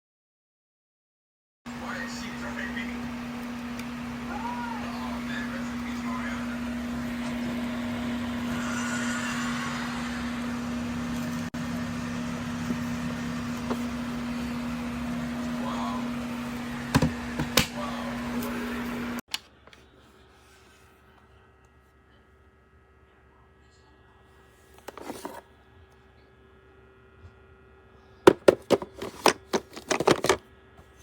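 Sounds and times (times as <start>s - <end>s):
fridge hum: 1.7s - 31.0s
mini fridge fan whirring: 1.7s - 31.0s.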